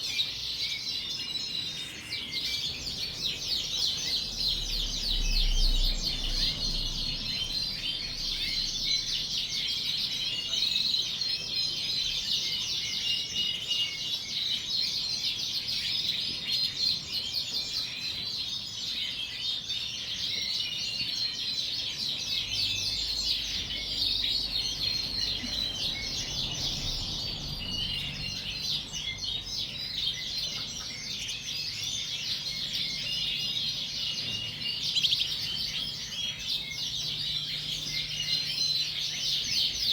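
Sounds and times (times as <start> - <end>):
canaries chirping and singing: 0.0 - 39.9.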